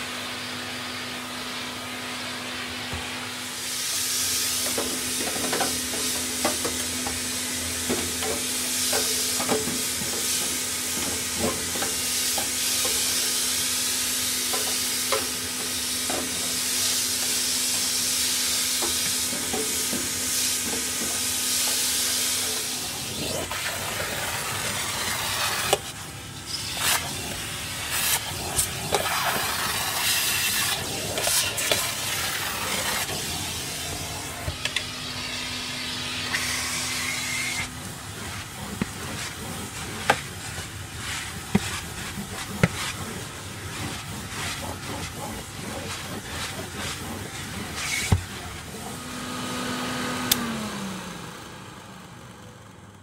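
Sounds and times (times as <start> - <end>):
vacuum cleaner running: 0.0 - 53.0
air hissing through nozzle: 3.4 - 48.4.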